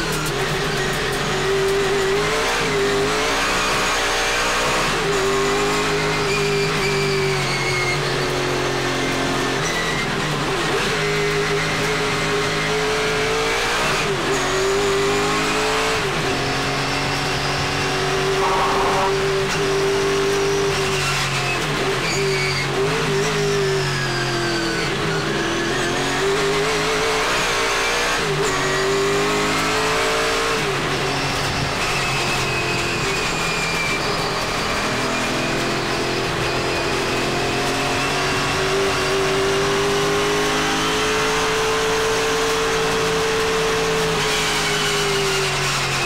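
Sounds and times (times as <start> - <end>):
race car engine from inside cabin: 0.0 - 46.0.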